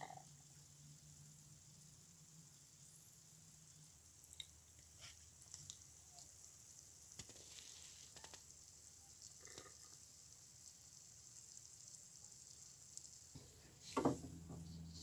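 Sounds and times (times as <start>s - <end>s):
small bubbles fizzing and crackling: 0.0s - 13.6s.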